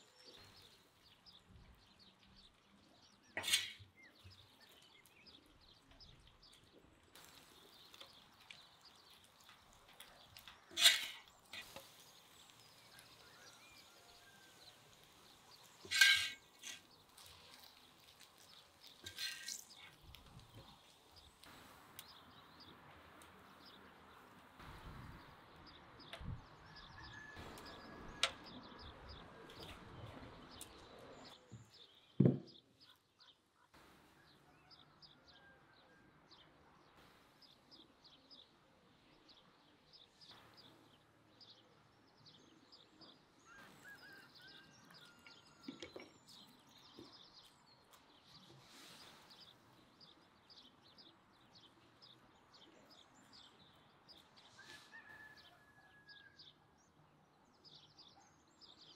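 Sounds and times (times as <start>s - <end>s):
birds chirping: 0.0s - 35.5s, 36.4s - 58.9s.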